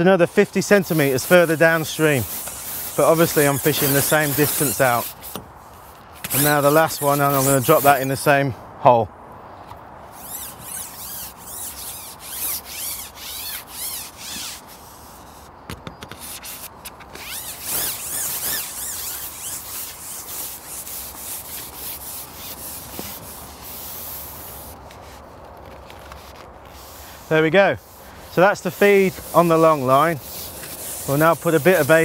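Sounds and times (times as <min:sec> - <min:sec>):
fishing pole rubbing and sliding: 0:00.4 - 0:08.3, 0:10.1 - 0:15.5, 0:16.1 - 0:32.0.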